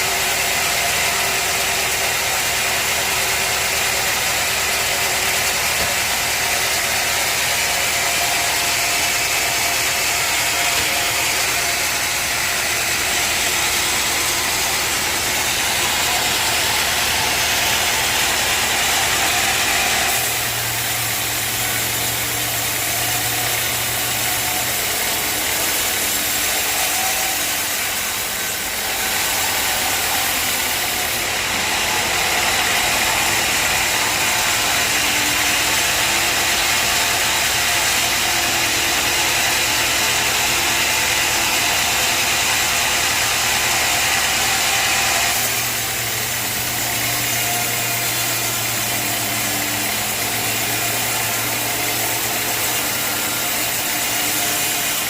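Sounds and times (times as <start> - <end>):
saw cutting through log: 0.0 - 55.0
sawmill engine hum: 0.0 - 55.0.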